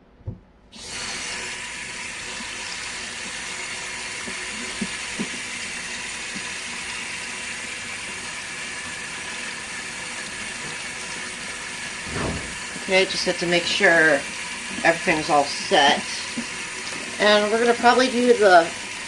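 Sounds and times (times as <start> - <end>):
water pouring from faucet: 0.8 - 19.0.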